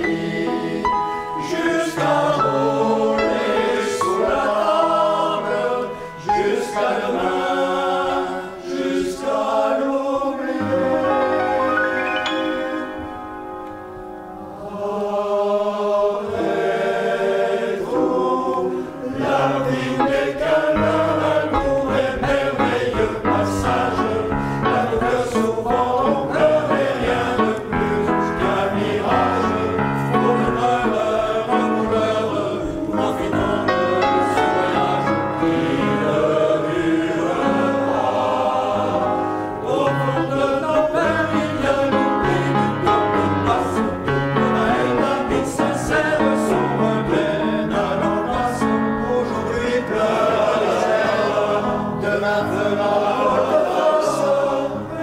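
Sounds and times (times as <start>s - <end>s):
men's choir singing in harmony: 0.0s - 55.0s.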